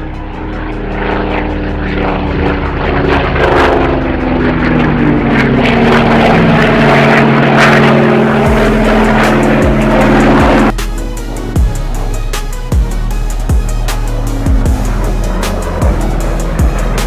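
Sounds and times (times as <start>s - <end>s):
propeller plane flying past: 0.0s - 17.0s.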